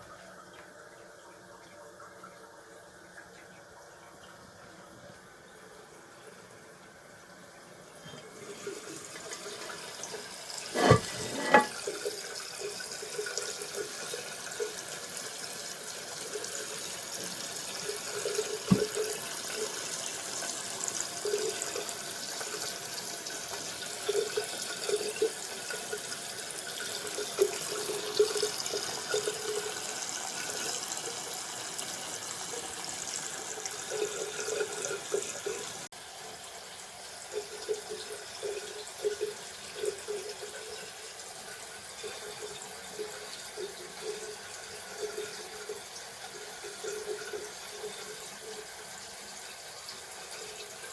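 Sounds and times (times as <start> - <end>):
water filling toilet tank: 0.1 - 50.9.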